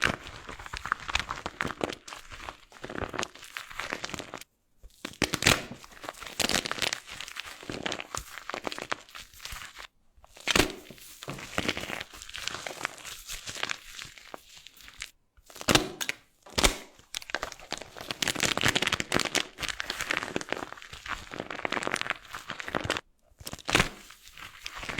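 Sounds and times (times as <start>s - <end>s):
dry soap crackling and crunching: 0.0s - 24.9s.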